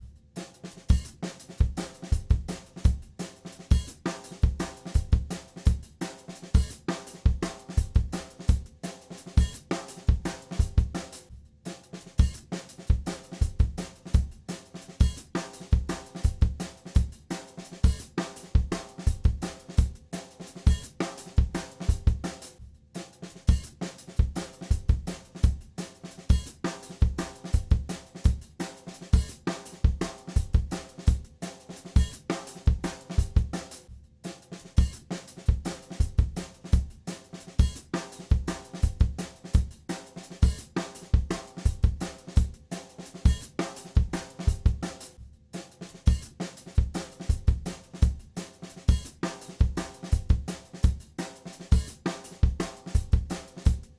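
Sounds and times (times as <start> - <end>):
music with drum-kit beat: 0.0 - 53.9.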